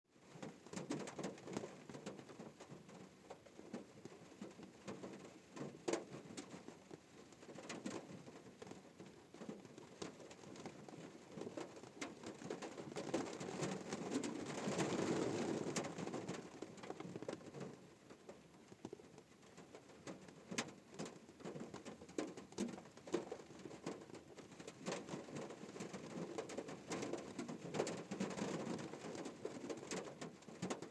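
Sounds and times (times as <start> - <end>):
rain on a car roof: 0.2 - 30.9.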